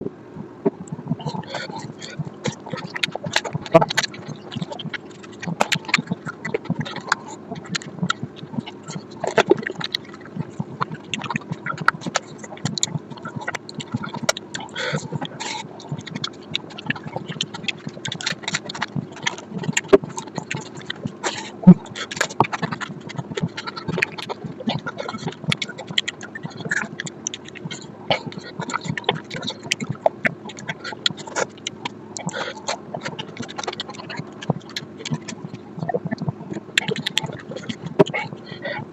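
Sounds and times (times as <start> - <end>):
mouth clicks: 0.4 - 38.9
person chewing food: 0.4 - 38.9
wet lip-smacks: 0.6 - 38.8.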